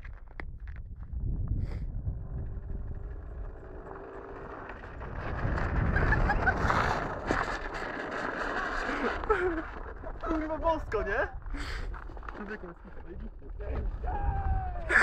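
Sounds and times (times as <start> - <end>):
wind buffeting microphone: 0.0 - 15.0
sled sliding over snow: 1.6 - 15.0.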